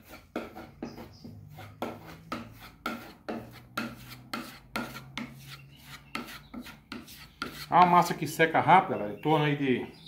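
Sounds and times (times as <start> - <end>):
putty knife scraping wood: 0.0 - 8.1.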